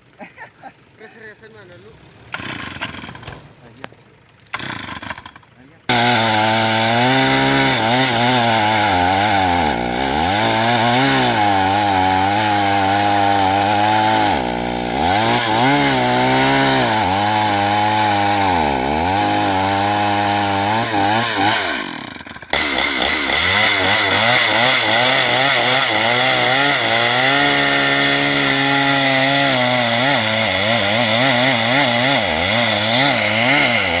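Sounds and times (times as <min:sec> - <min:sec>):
chainsaw cutting wood: 0:02.2 - 0:03.5, 0:04.4 - 0:34.0.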